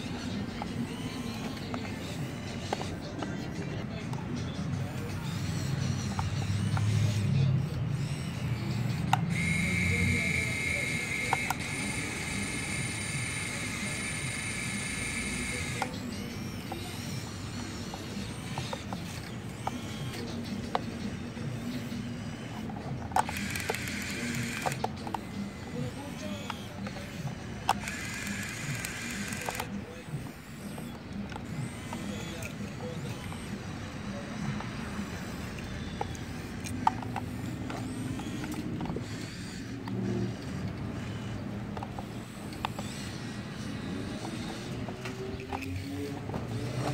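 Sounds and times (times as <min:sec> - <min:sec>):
short motor whirs: 0:00.0 - 0:03.9, 0:04.8 - 0:46.9
toy motor whine: 0:00.0 - 0:46.9
sharp plastic clicks: 0:08.0 - 0:33.7, 0:34.3 - 0:46.9.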